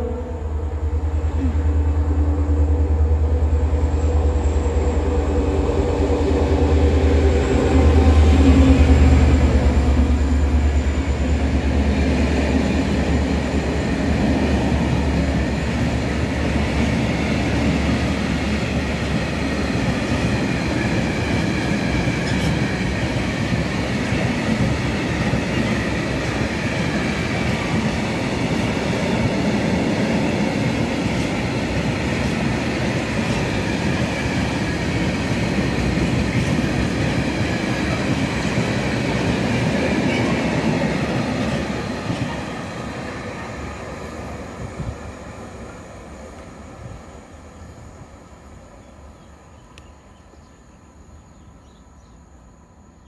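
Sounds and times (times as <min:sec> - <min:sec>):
freight train rumbling past: 0:00.0 - 0:50.2.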